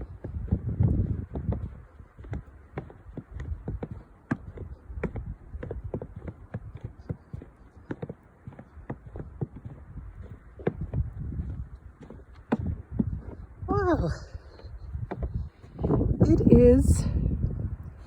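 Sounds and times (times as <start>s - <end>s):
footsteps crunching through snow: 0.0s - 16.0s
wind rumbling on microphone: 0.0s - 18.0s.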